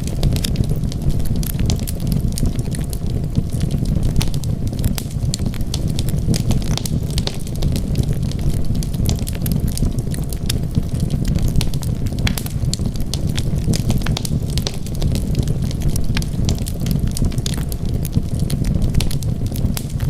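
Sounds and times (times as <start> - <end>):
burning wood crackling and popping: 0.0 - 20.0
low rumble of flames: 0.0 - 20.0.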